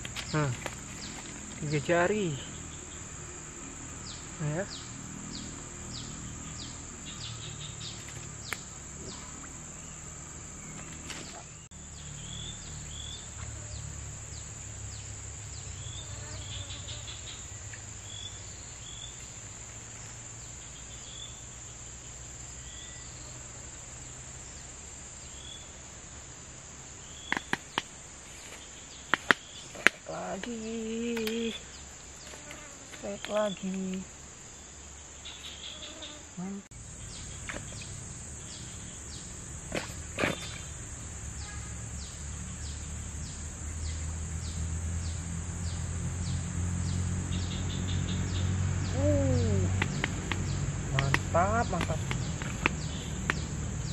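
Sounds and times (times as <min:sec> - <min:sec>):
insects droning: 0:00.0 - 0:53.9.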